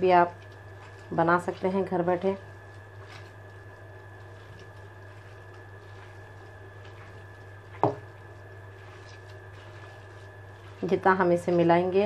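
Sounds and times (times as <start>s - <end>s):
hand kneading minced meat: 0.0s - 12.0s
low electrical hum: 0.0s - 12.0s.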